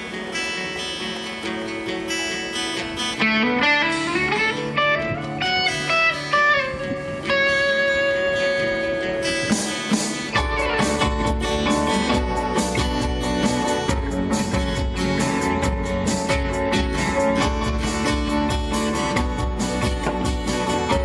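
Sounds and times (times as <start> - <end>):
guitar melody: 0.0 - 21.0
live band playing: 0.0 - 21.0.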